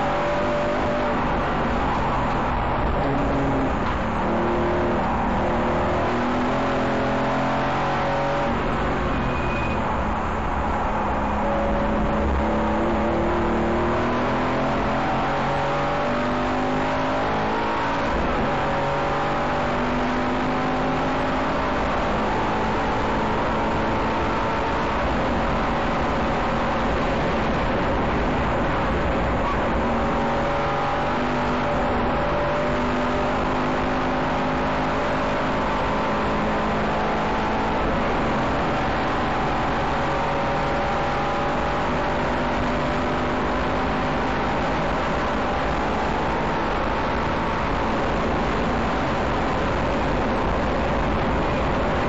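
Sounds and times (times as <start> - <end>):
car engine accelerating through gears: 0.0 - 52.0
tyre and road noise: 0.0 - 52.0.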